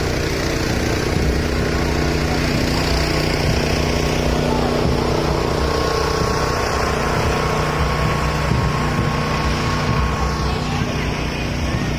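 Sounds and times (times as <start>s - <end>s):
engine humming: 0.0s - 11.9s.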